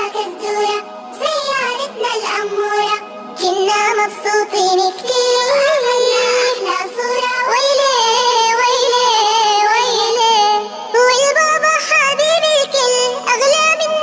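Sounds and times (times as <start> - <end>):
high singing voice: 0.0 - 14.0.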